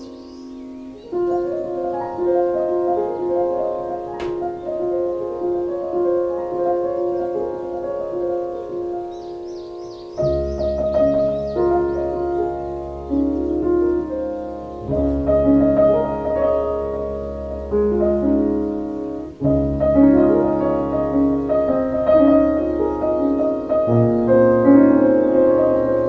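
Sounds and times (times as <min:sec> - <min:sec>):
gentle slow piano music: 0:00.0 - 0:26.0.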